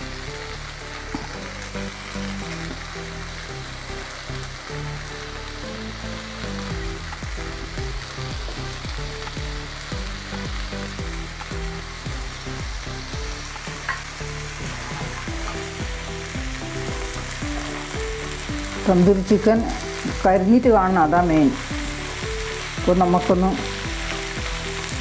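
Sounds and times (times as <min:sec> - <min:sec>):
chicken sizzling in a pan: 0:00.0 - 0:25.0
low background music: 0:00.0 - 0:25.0.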